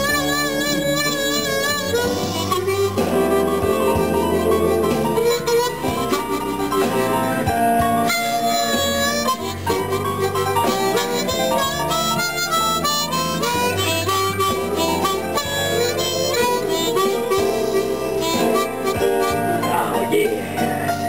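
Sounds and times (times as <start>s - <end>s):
blues backing track: 0.0s - 21.0s
blues harmonica: 0.0s - 21.0s.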